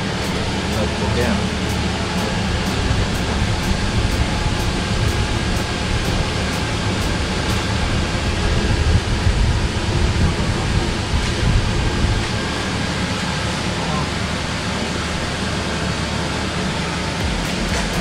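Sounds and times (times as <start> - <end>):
steady low rumbling: 0.0 - 18.0.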